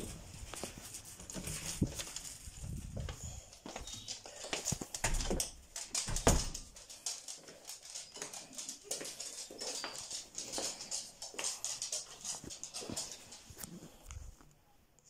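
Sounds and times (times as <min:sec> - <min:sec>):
dog claws clicking on floor: 0:00.5 - 0:14.2.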